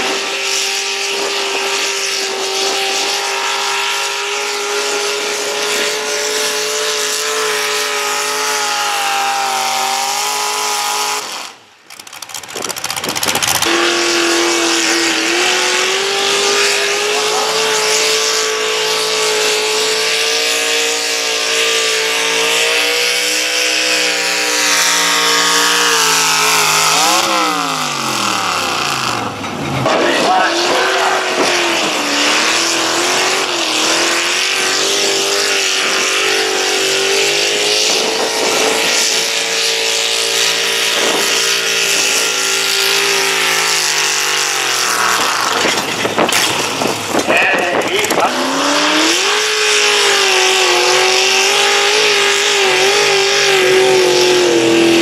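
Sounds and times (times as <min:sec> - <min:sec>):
truck engine at full throttle: 0:00.0 - 0:55.0
tractor engine under load: 0:03.4 - 0:55.0.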